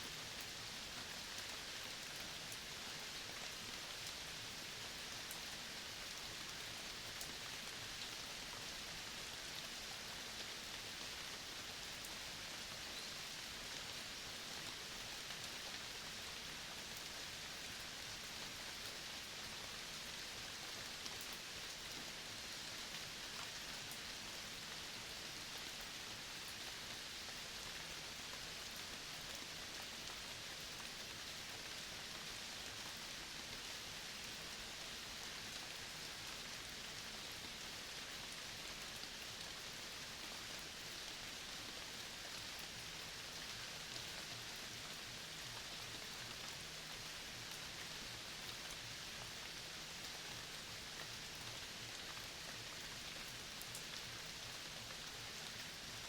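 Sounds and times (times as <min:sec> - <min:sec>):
rain falling in a forest: 0:00.0 - 0:56.0.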